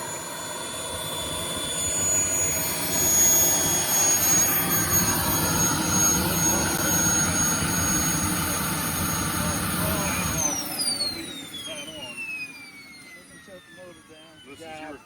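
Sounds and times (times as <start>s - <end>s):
model jet turbine running: 0.0s - 15.0s.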